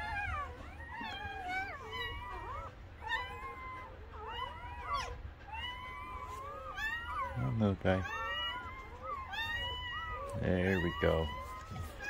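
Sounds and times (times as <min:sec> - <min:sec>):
puppies crying: 0:00.0 - 0:12.0.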